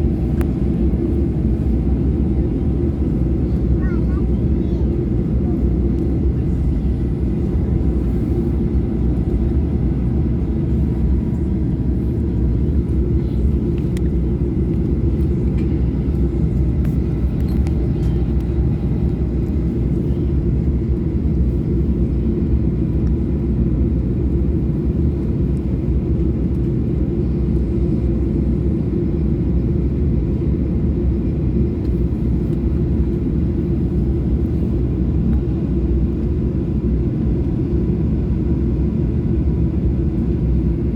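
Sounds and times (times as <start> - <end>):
aircraft engines idling rumble: 0.0 - 40.9.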